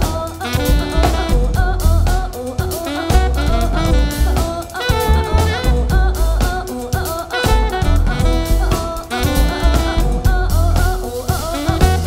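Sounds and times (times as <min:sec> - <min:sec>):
jazz band playing: 0:00.0 - 0:12.0.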